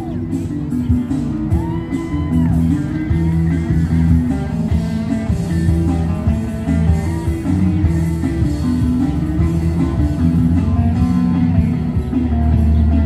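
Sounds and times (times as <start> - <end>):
electric guitar: 0.0 - 13.0
rock band playing: 0.0 - 13.0
steady bass line: 0.0 - 13.0.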